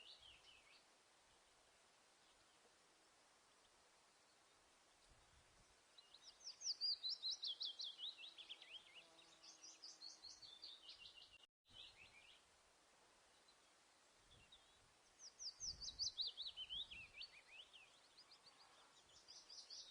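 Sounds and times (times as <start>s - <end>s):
faint steady hiss: 0.0s - 19.9s
songbird chirping: 0.0s - 19.9s.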